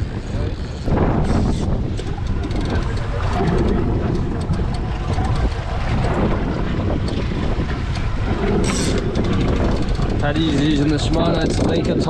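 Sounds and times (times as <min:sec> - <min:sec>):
boat rumble: 0:00.0 - 0:12.0
wind buffeting microphone: 0:00.0 - 0:12.0.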